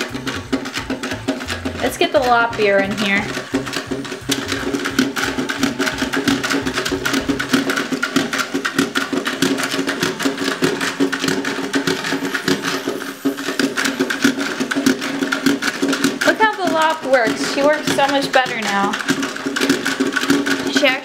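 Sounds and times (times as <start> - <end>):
plastic toy clattering on wood: 0.0 - 21.0
toy motor and gears buzzing: 0.0 - 21.0.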